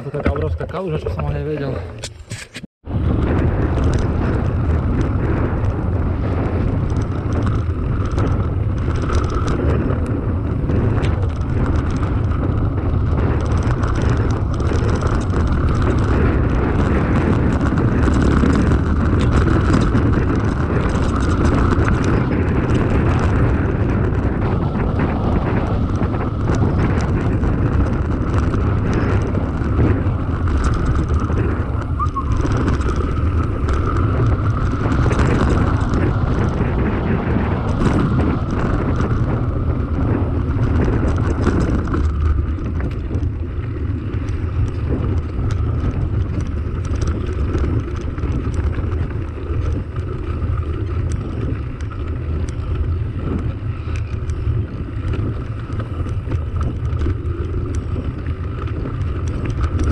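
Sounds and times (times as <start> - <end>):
bike rattling over rough ground: 0.0 - 59.9
bike tyres rolling on gravel: 0.0 - 59.9
wind buffeting microphone: 0.0 - 59.9.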